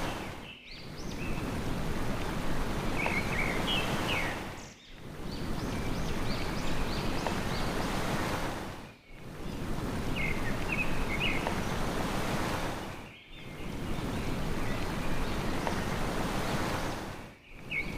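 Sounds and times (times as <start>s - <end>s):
sea surf hissing: 0.0s - 13.0s, 13.6s - 17.9s.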